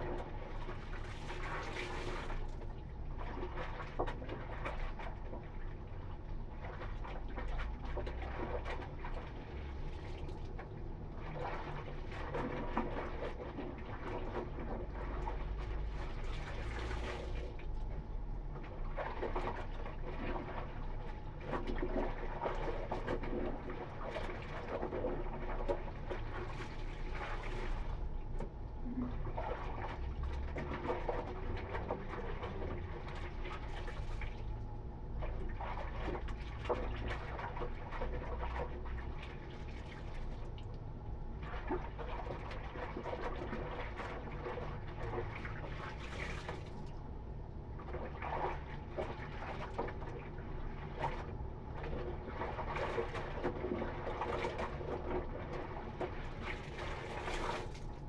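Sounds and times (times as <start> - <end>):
water splashing in a basin: 0.0 - 58.0.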